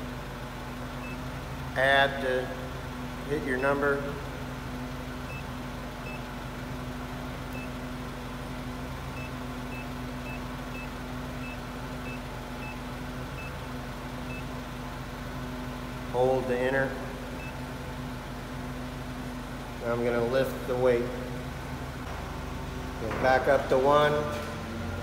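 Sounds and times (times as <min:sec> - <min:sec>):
forklift humming: 0:00.0 - 0:25.0.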